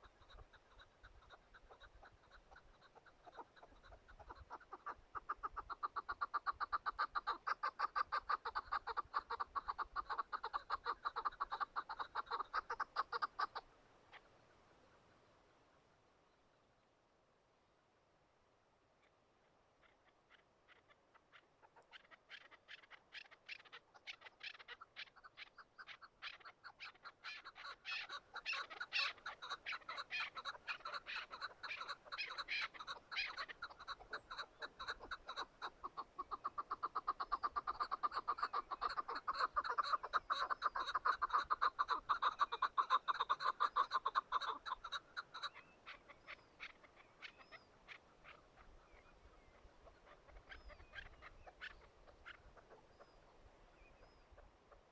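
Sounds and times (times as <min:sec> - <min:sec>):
partridge clucking calls: 0:00.0 - 0:14.3, 0:19.8 - 0:54.9.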